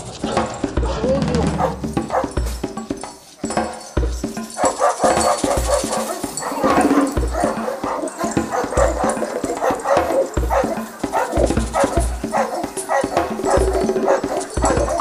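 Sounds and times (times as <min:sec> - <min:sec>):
dogs barking: 0:00.0 - 0:15.0
music with deep bass beat: 0:00.4 - 0:15.0.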